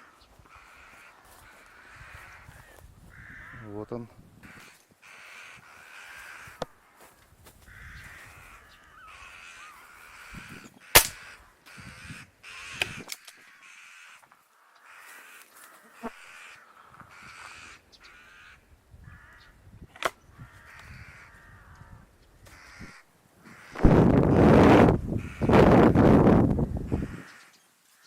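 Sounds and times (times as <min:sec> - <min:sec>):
crows cawing: 0:00.0 - 0:26.2, 0:26.8 - 0:28.0.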